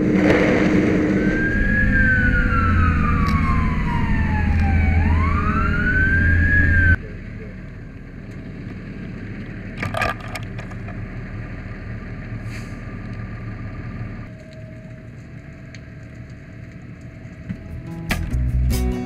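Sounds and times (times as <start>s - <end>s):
fire engine rumbling: 0.0s - 19.0s.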